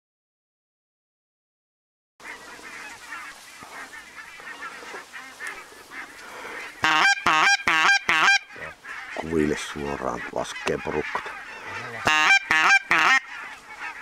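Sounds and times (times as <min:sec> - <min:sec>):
distant geese honking: 0:02.2 - 0:14.0
goose call honks: 0:02.2 - 0:14.0.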